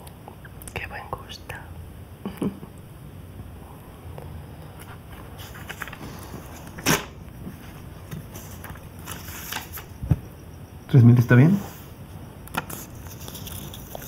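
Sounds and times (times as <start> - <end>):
room noise with low hum: 0.0 - 14.0.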